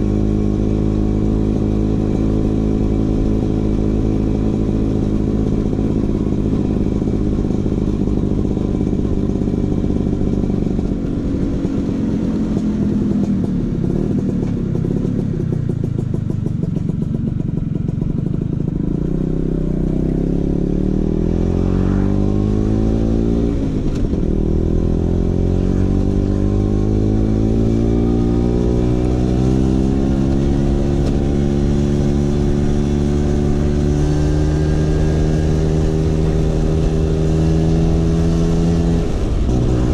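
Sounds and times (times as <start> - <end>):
scooter two-stroke engine: 0.0 - 22.0, 22.6 - 39.9.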